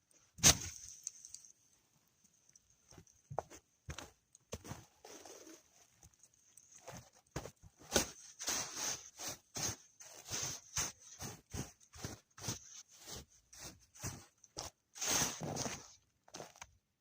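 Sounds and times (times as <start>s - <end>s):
footsteps crunching on frozen snow: 2.9s - 16.6s.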